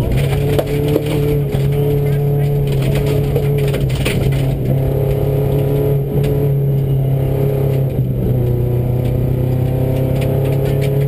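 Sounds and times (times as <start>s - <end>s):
gravel clattering against car underside: 0.0s - 6.9s, 7.6s - 11.0s
car engine running hard: 0.0s - 11.0s.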